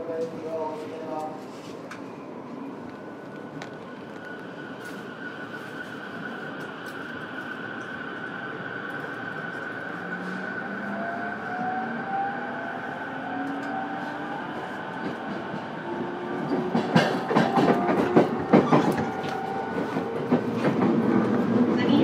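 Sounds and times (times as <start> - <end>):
train running noise: 2.8 - 22.0.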